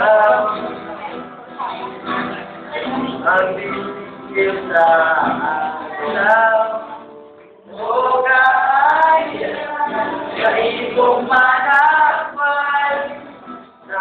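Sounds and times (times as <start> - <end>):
music with singing voices: 0.0 - 14.0.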